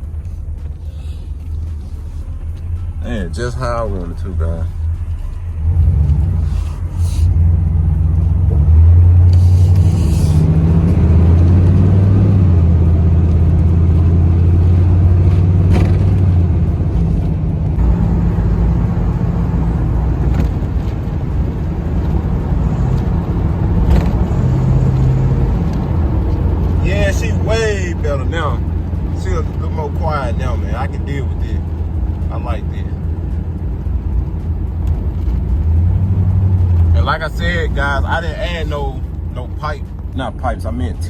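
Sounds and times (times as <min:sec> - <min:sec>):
car engine rumbling through exhaust: 0:00.0 - 0:41.0.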